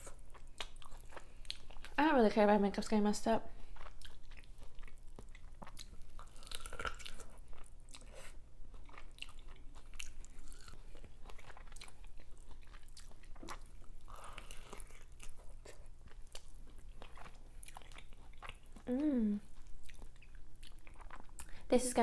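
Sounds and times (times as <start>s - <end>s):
chewing corn on the cob: 0.0s - 2.0s, 3.6s - 21.6s.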